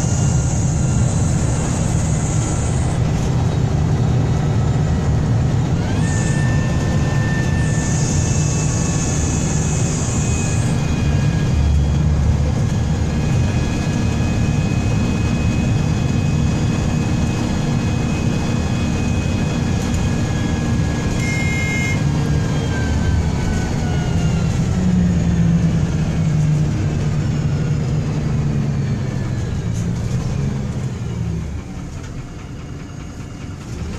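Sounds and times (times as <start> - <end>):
bus engine rumble: 0.0 - 33.9
gear whine: 0.0 - 33.9.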